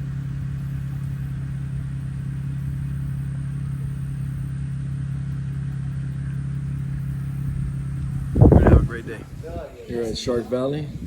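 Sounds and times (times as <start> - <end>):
car engine running: 0.0 - 11.0
road and wind noise: 0.0 - 11.0.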